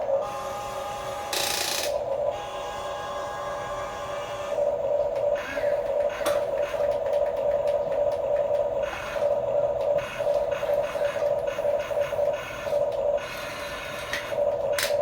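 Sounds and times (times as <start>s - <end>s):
small electric motors whining: 0.2s - 7.3s, 8.8s - 15.0s.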